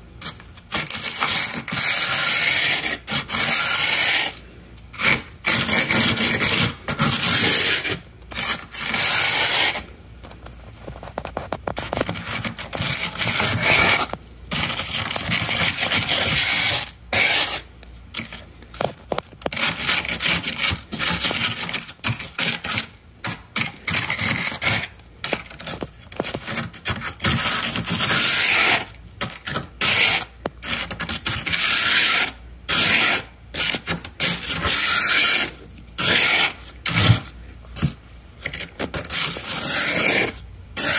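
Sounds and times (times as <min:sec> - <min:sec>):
plastic scraper scraping frost: 0:00.2 - 0:09.9, 0:10.8 - 0:40.9.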